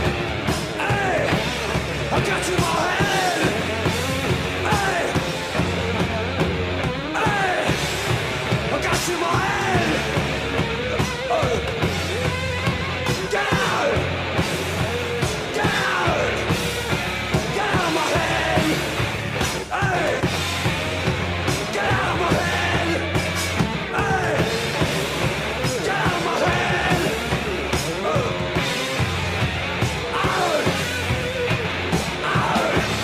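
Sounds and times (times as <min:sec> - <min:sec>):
punk rock band playing: 0:00.0 - 0:33.0.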